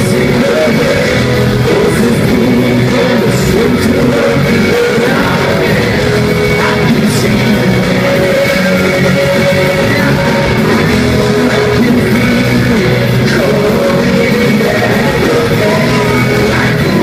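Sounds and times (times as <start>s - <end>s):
person singing: 0.0s - 17.0s
rock band playing live: 0.0s - 17.0s.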